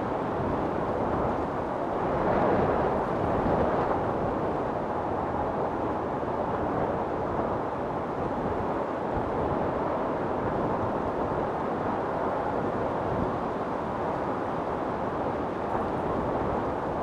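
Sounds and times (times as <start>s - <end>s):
storm wind blowing hard: 0.0s - 17.0s.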